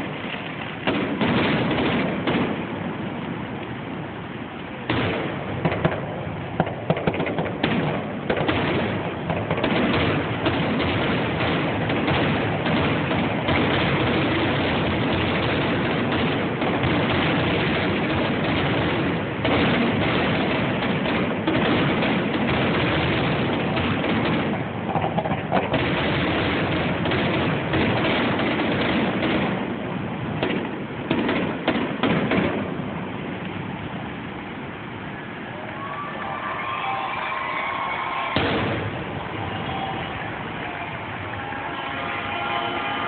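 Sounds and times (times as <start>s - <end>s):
fireworks bursts and crackle: 0.0s - 43.0s.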